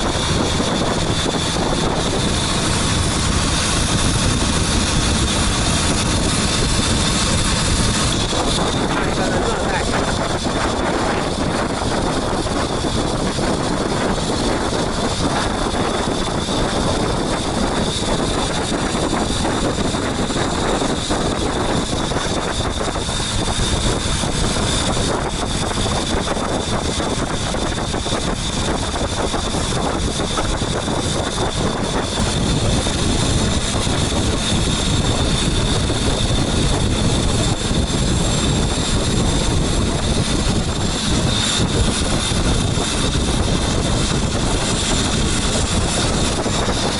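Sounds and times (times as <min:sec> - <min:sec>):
boat engine running: 0:00.0 - 0:46.9.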